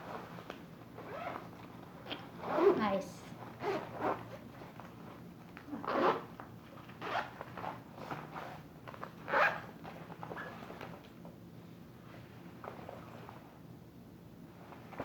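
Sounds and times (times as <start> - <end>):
rustling zip-like scrapes: 0.0 - 11.0, 12.1 - 13.6.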